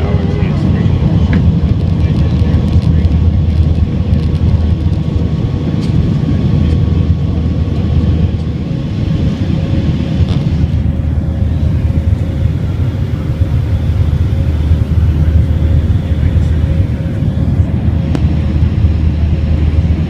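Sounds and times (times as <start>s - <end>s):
jet engines rumbling: 0.0s - 20.0s
rushing air: 0.0s - 20.0s.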